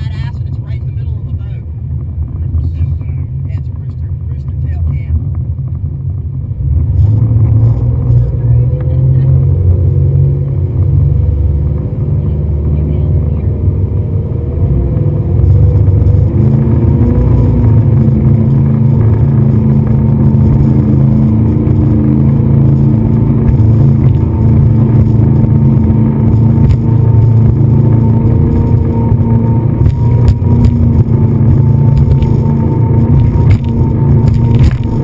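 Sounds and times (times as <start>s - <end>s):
speedboat engine rumbling: 0.0s - 35.0s.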